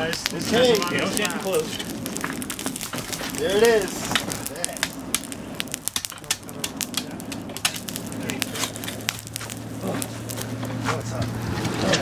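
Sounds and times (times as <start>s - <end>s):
charcoal crackling and popping: 0.0s - 12.0s.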